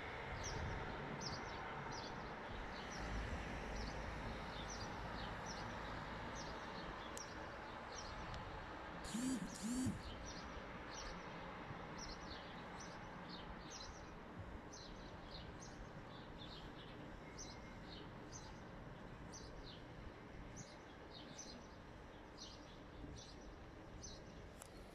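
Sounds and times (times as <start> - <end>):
faint distant city hum: 0.0 - 24.9.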